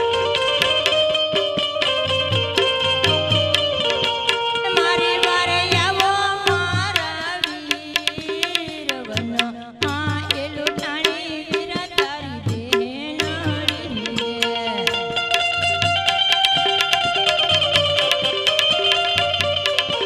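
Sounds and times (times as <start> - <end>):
drum beat: 0.0 - 20.0.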